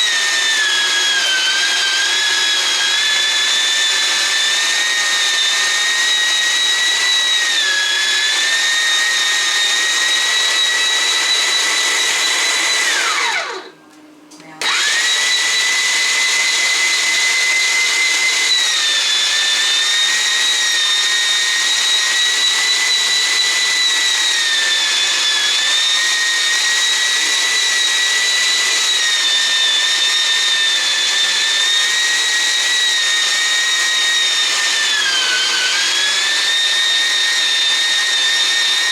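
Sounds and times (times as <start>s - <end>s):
electric meat grinder whining: 0.0s - 13.7s, 14.6s - 38.9s.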